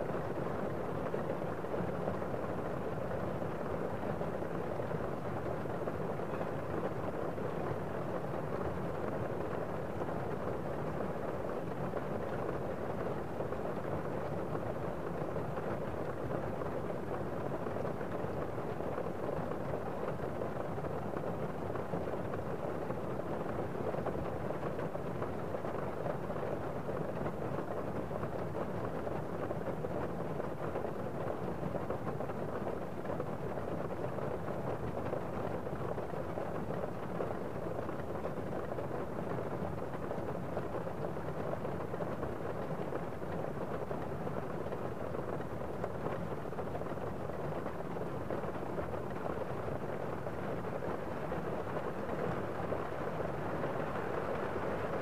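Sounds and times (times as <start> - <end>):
steady rain falling: 0.2 - 55.0.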